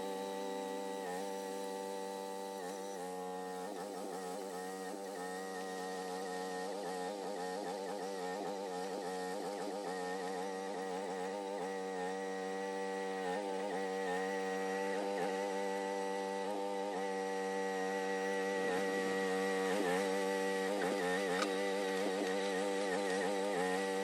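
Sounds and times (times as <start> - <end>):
excavator engine droning: 0.0 - 24.0.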